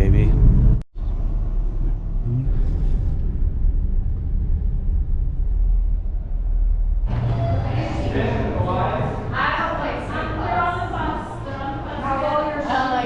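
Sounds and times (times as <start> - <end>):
car rumble from inside: 0.0 - 11.7.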